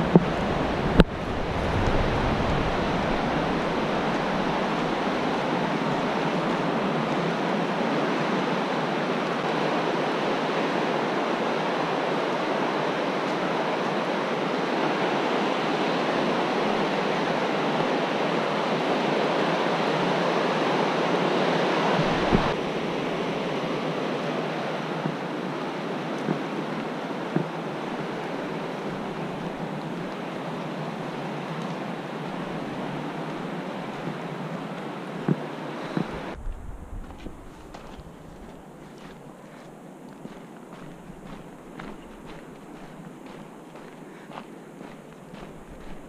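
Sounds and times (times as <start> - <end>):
river rapids roaring: 0.0 - 46.0.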